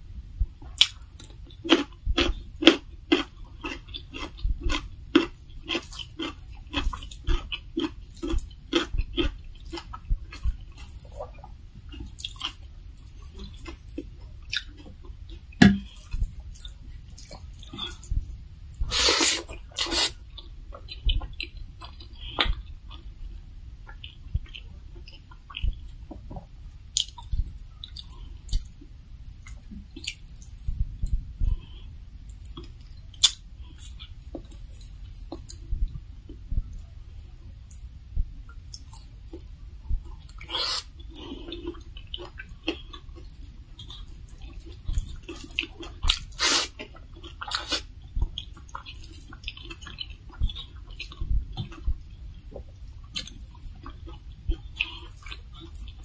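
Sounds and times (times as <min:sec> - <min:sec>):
mouth chewing food: 0:00.6 - 0:23.2, 0:23.8 - 0:56.0.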